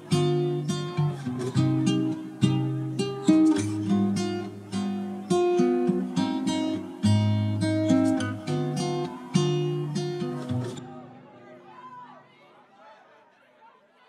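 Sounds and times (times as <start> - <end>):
acoustic guitar strummed and plucked: 0.0 - 11.4.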